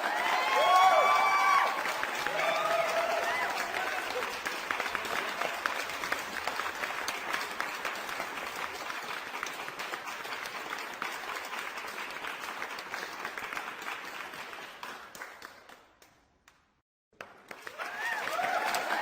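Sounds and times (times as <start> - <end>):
crowd applauding: 0.0 - 16.1, 17.2 - 19.0.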